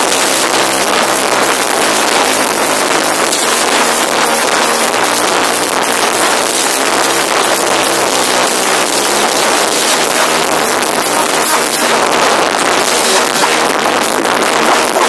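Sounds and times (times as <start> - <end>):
distorted live rock band: 0.0 - 15.0.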